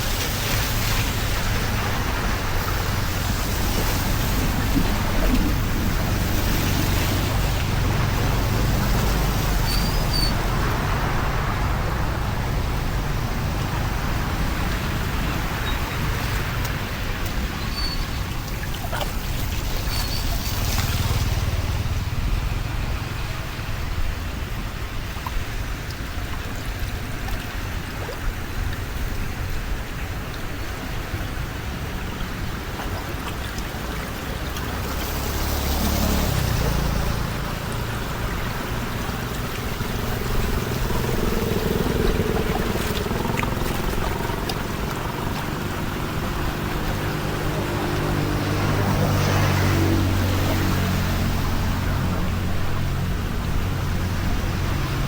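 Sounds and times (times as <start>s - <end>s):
water trickling through a drain: 0.0s - 55.0s.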